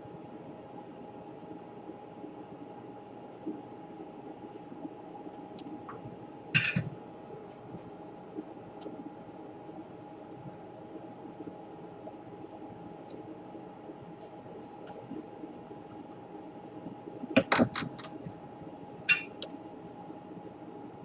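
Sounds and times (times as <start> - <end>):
workbench hum and hiss: 0.0 - 21.0.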